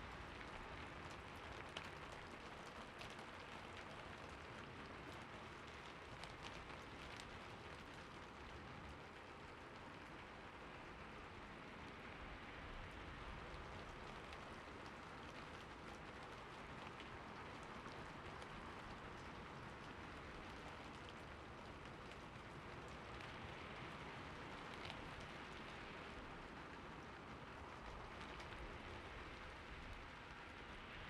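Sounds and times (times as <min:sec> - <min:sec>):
raindrops ticking on a surface: 0:00.0 - 0:31.0
steady rain falling: 0:00.0 - 0:31.0.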